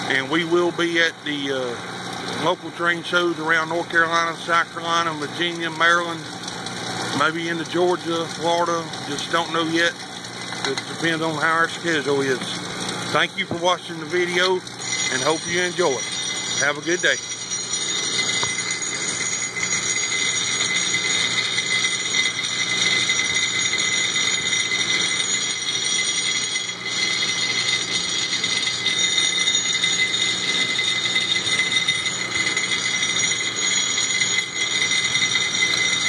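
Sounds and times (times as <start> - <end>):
high metallic whine: 0.0 - 36.0
rock crusher grinding: 0.0 - 36.0.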